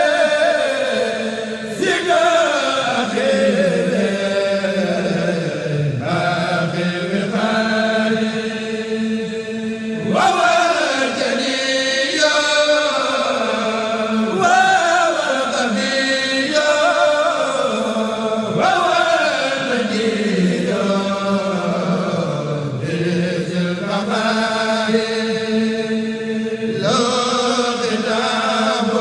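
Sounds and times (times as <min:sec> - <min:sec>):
men chanting: 0:00.0 - 0:29.0.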